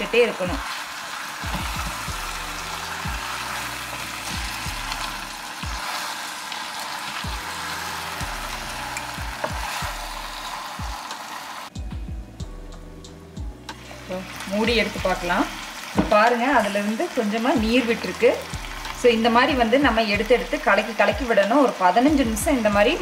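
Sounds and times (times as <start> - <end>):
chicken sizzling in a pot: 0.0 - 11.8, 13.7 - 23.0.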